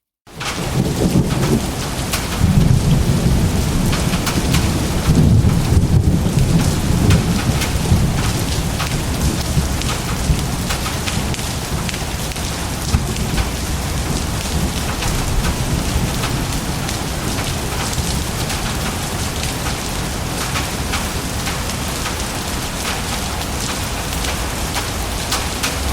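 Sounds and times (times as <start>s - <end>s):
steady rain with drop hits: 0.3s - 25.9s
low rumble of thunder: 0.4s - 25.9s.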